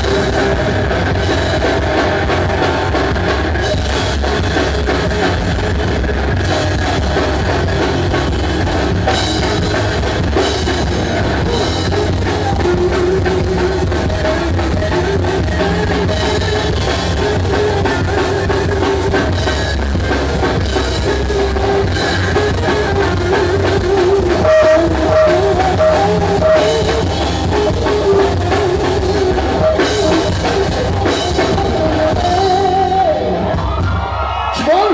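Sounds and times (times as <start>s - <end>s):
drum kit: 0.0s - 34.9s
electric guitar: 0.0s - 34.9s.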